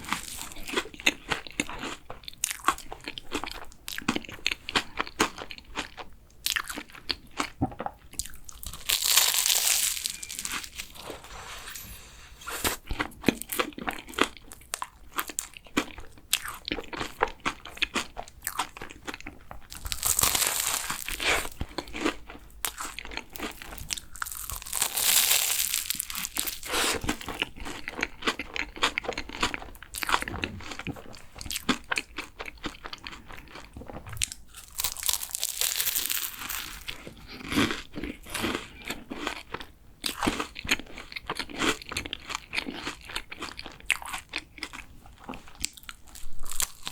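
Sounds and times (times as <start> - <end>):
pastry crunching while chewing: 0.0 - 11.2, 12.7 - 46.9.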